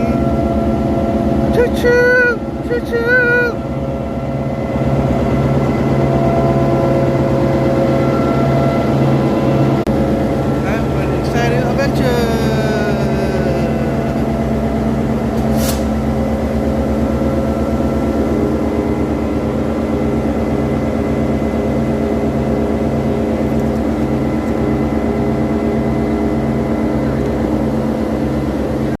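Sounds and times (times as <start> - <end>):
low repeating pulse: 0.0 - 29.0
train engine hum: 0.0 - 29.0.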